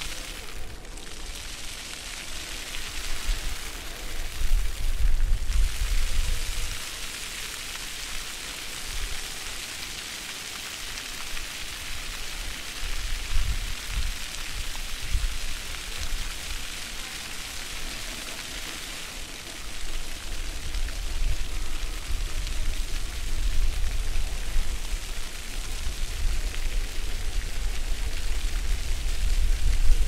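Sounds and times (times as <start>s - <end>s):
fountain water splashing on stone: 0.0s - 30.0s.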